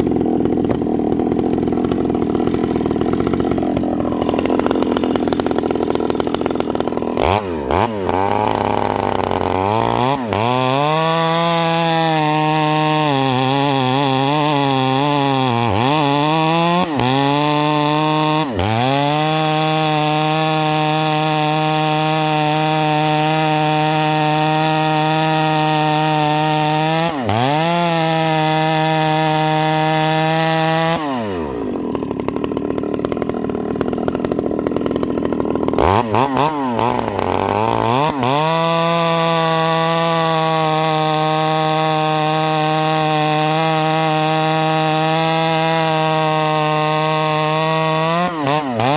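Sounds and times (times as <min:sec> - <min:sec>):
chainsaw running at full throttle: 0:00.0 - 0:48.9.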